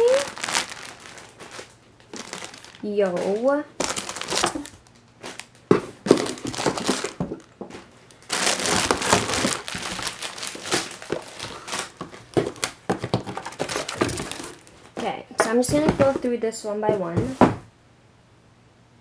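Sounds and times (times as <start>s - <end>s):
plastic packaging crinkling: 0.0s - 17.6s.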